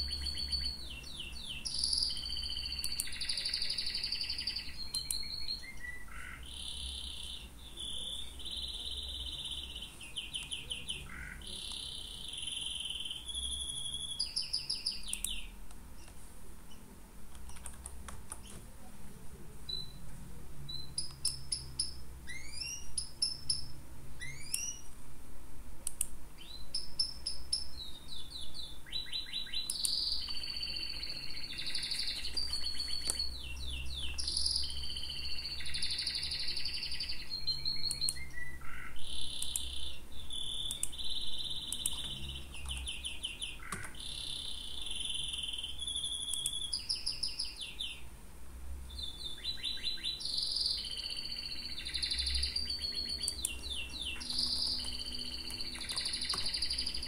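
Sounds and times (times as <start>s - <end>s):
small birds chirping and trilling: 0.0s - 18.6s, 19.3s - 25.0s, 25.8s - 48.2s, 48.8s - 57.0s.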